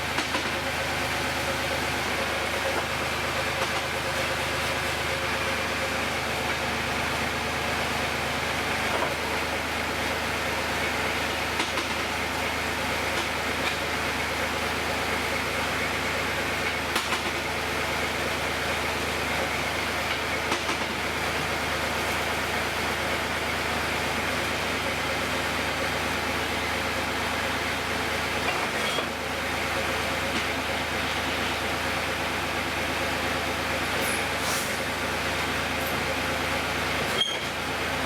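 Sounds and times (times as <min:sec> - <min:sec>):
heavy equipment engine running: 0:00.0 - 0:38.0.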